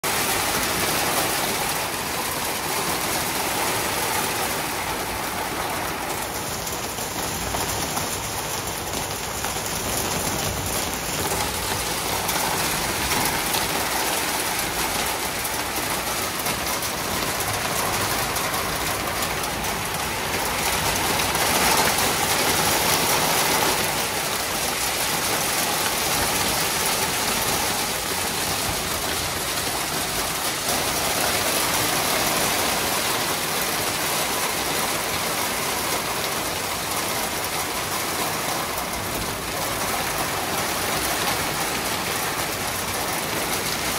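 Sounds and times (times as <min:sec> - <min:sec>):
heavy rain on concrete: 0:00.0 - 0:43.9.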